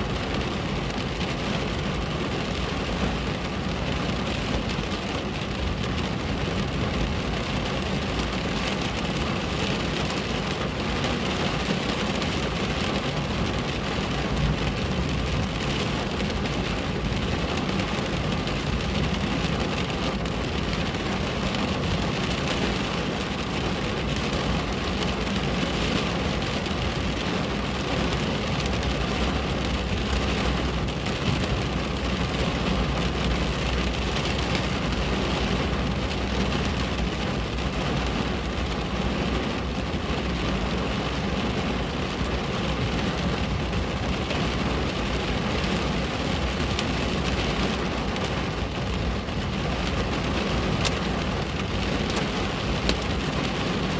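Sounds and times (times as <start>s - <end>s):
constant low rumble: 0.0s - 53.9s
heavy rain drumming on a window: 0.0s - 53.9s.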